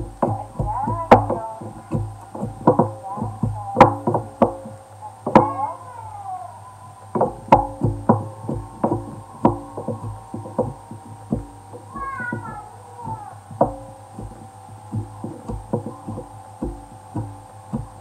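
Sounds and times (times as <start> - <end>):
wooden pestle pounding in mortar: 0.0 - 4.7, 7.1 - 18.0.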